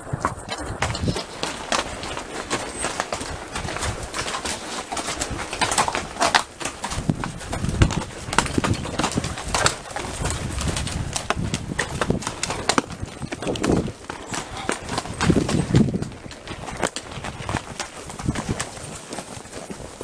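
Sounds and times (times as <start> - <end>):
hooves clopping on rock: 0.0 - 20.0.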